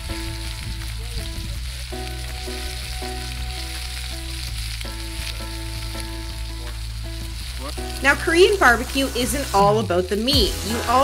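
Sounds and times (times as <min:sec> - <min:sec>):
meat sizzling on grill pan: 0:00.0 - 0:11.0
soft background music: 0:00.0 - 0:11.0.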